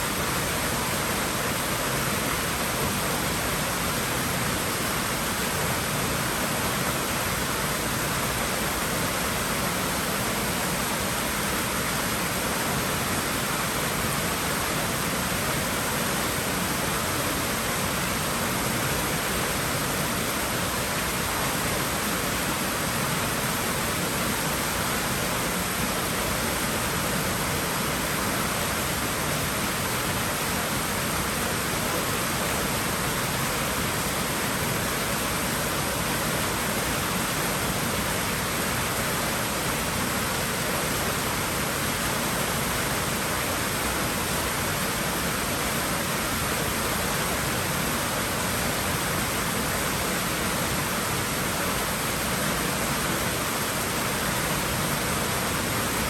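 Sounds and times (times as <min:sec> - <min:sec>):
water rushing in a pool: 0:00.0 - 0:56.0.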